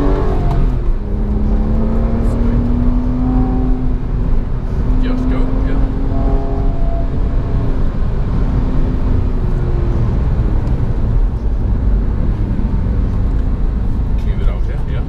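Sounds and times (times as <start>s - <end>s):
car engine running: 0.0s - 15.0s
road and wind rumble: 0.0s - 15.0s.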